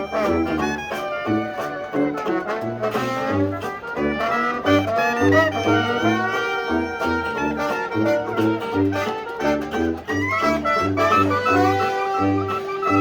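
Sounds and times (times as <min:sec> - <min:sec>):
jazz band playing: 0:00.0 - 0:13.0
plucked rhythm instrument: 0:00.0 - 0:13.0
tuba bass line: 0:00.0 - 0:13.0.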